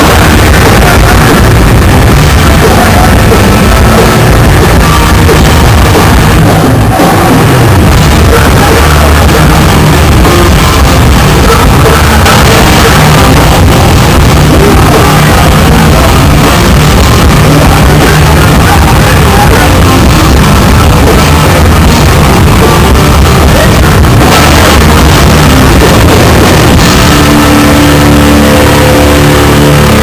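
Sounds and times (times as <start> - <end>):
distorted electric guitars: 0.0 - 30.0
pounding drums: 0.0 - 30.0
shouted vocals: 0.0 - 30.0.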